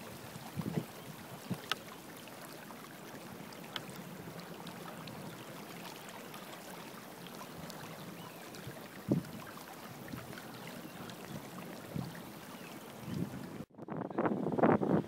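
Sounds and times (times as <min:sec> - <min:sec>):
water washing along boat hull: 0:00.0 - 0:13.7.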